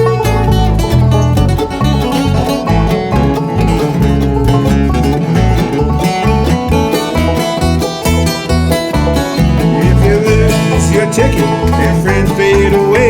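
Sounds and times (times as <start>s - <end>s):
banjo picking: 0.0s - 13.0s
bass notes: 0.0s - 13.0s
guitar: 0.0s - 13.0s.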